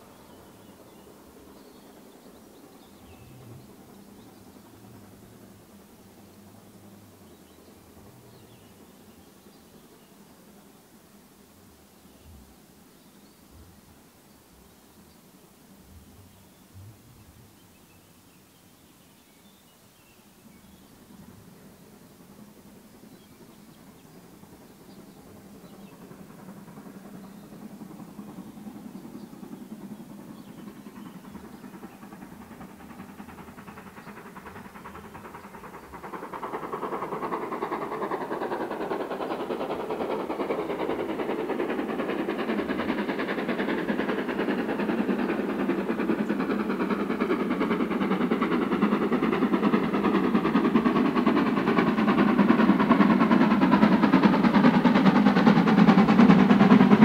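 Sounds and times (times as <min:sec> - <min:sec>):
steam locomotive approaching: 0:00.0 - 0:57.0.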